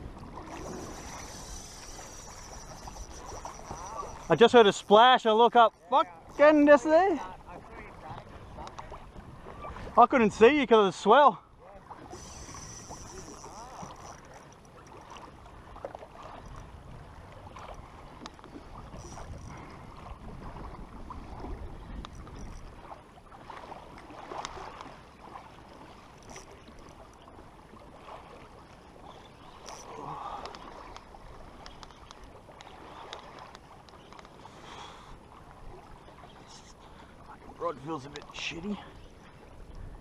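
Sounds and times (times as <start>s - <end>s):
water lapping against kayak hull: 0.0s - 40.0s.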